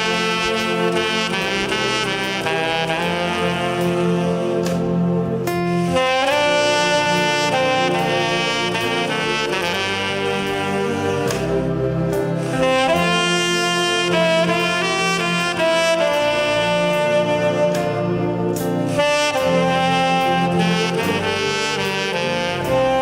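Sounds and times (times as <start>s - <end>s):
saxophone ensemble ballad: 0.0s - 23.0s.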